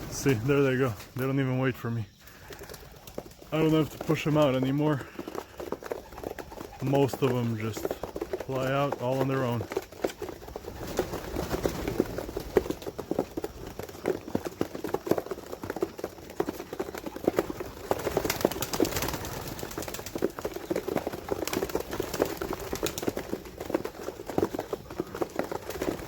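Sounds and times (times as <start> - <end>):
pigeon wings flapping: 0.0 - 26.0
pigeons cooing: 2.2 - 26.0.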